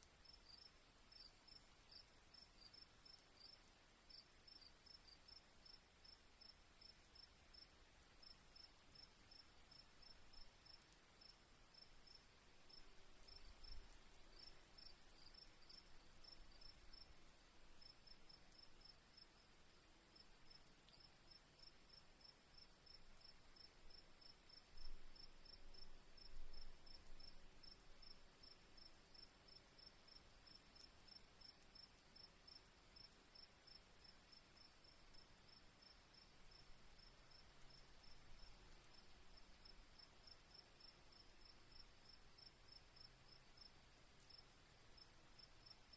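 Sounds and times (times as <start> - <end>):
crickets trilling and chirping: 0.2 - 45.9.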